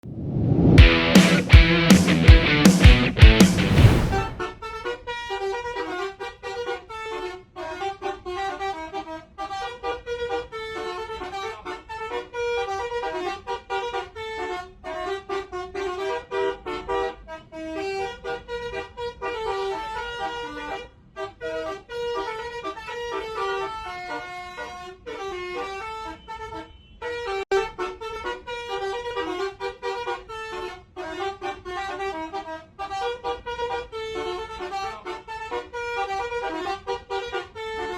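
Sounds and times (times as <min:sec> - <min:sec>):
multi-tone bus horn melody: 0:04.4 - 0:37.9.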